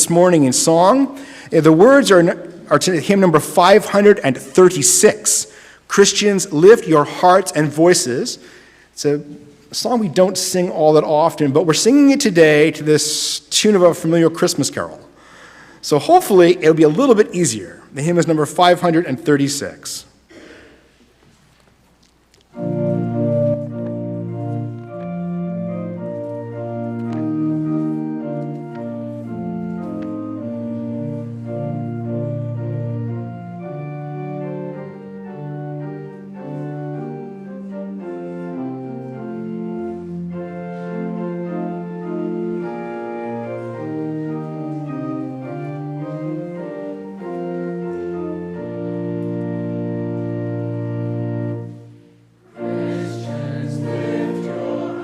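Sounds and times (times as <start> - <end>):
organ playing hymn chords: 0.0 - 20.1, 22.4 - 55.0.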